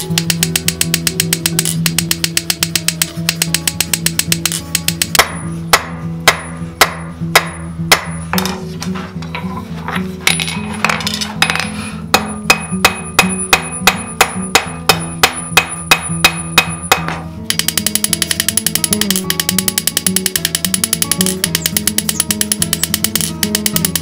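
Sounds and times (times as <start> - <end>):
background music: 0.0 - 24.0
hammer striking steel on anvil: 0.1 - 8.6, 10.3 - 24.0.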